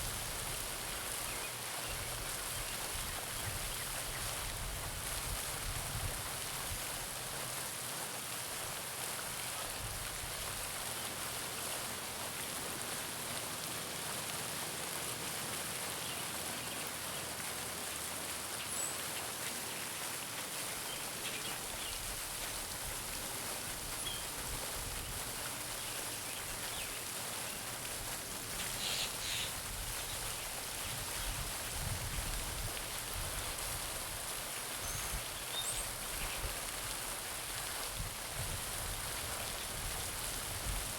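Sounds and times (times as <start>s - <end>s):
fountain splashing into water: 0.0s - 40.9s.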